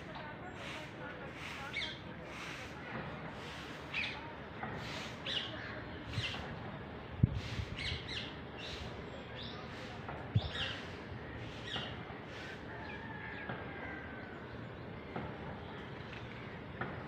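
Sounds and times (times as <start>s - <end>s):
background noise: 0.0s - 17.0s
birds chirping: 0.0s - 17.0s.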